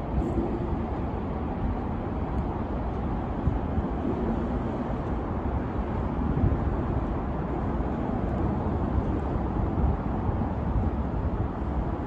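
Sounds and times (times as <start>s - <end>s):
low rumble of road traffic: 0.0s - 12.0s
wind buffeting microphone: 0.0s - 12.0s.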